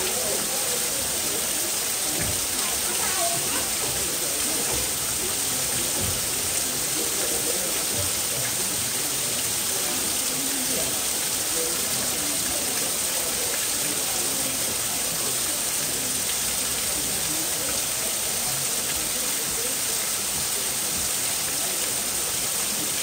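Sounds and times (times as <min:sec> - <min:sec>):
faint voices: 0:00.0 - 0:23.0
water rushing: 0:00.0 - 0:23.0.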